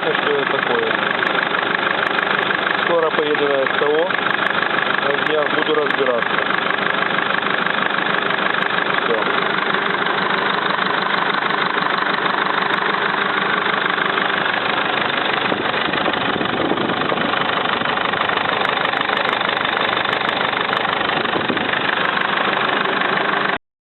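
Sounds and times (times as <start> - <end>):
rapid engine knock: 0.0 - 23.6
van engine idling: 0.0 - 23.6.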